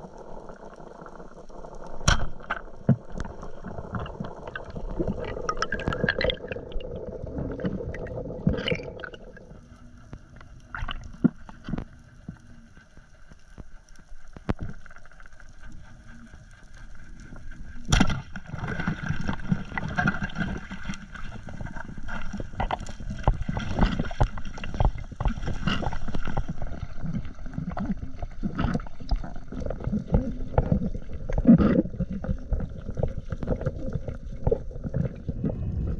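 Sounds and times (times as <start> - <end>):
water rushing underwater: 0.0 - 12.0, 16.9 - 35.9
underwater clicks and crackles: 0.0 - 35.9.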